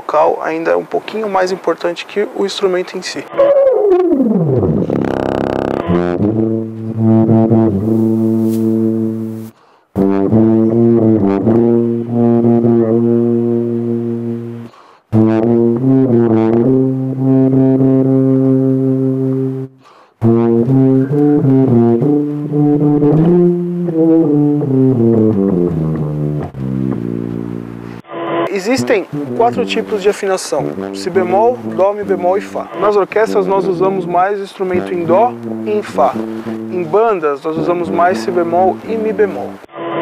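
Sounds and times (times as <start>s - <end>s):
tuba playing: 3.3s - 40.0s.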